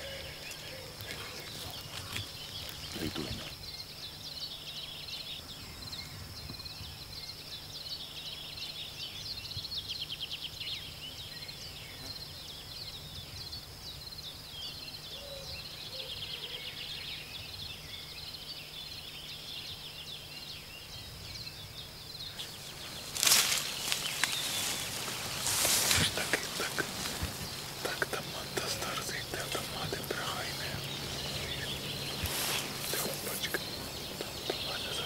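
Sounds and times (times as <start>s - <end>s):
faint low hum: 0.0s - 35.0s
insects trilling: 0.0s - 35.0s
small birds chirping: 0.0s - 35.0s.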